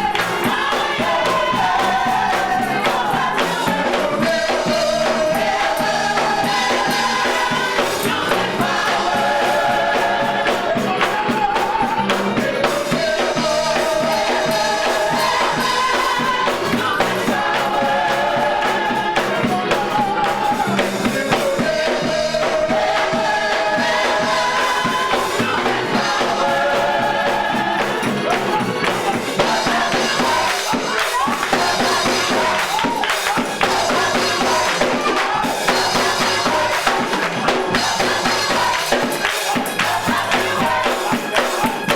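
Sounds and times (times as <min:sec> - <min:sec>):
accompanying music: 0:00.0 - 0:41.9
gospel choir singing: 0:00.0 - 0:41.9.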